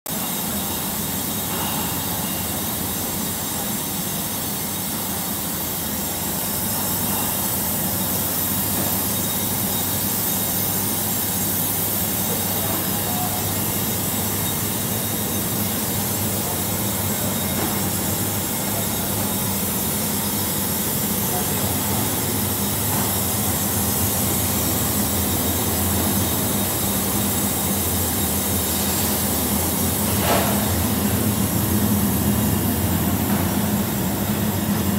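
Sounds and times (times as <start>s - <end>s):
low machine hum: 0.1s - 34.9s
steam hissing: 0.1s - 34.9s.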